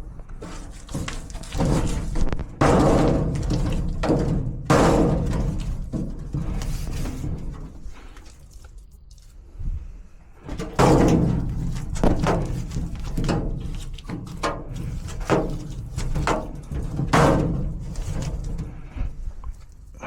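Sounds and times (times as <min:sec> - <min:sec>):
sheet metal thudding and scraping: 0:00.0 - 0:08.1, 0:10.4 - 0:19.3.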